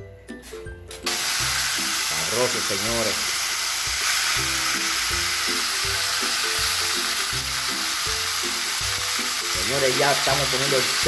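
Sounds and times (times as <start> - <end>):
background music: 0.0 - 11.0
meat sizzling in hot oil: 0.5 - 11.0.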